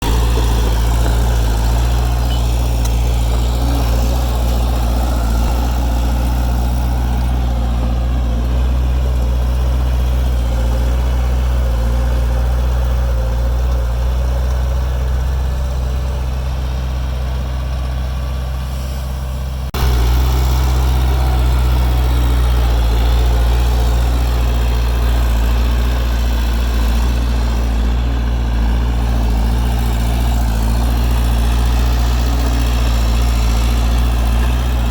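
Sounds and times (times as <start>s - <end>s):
bulldozer diesel engine droning: 0.0s - 34.9s.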